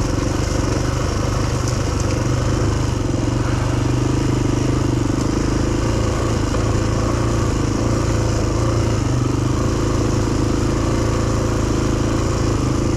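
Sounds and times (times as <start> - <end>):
motorcycle engine running steadily: 0.0 - 12.9.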